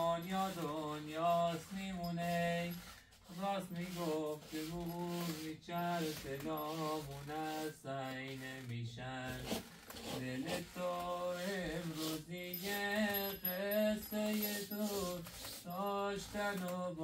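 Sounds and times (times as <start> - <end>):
man singing chant-like melody: 0.0 - 9.6, 10.2 - 17.0.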